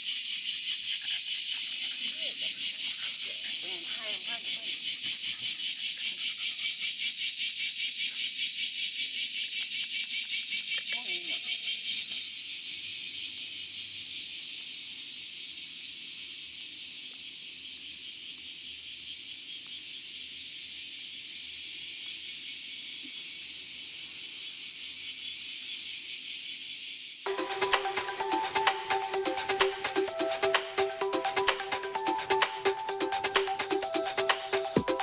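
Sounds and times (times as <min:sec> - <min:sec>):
cicadas singing: 0:00.0 - 0:35.0.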